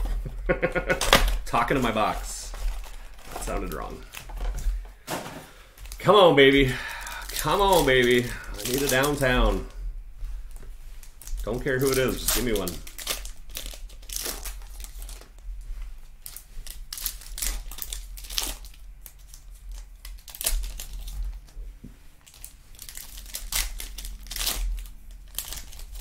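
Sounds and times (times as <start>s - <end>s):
foil wrapper tearing and crinkling: 0.9s - 4.4s, 5.8s - 9.7s, 11.0s - 15.4s, 16.1s - 21.6s, 22.2s - 26.0s.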